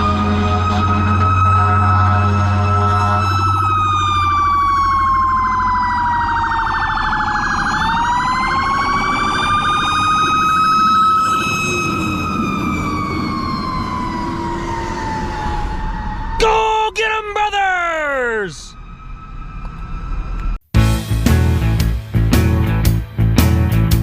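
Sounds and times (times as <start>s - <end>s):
emergency vehicle siren wailing: 0.0s - 17.3s, 18.6s - 20.6s.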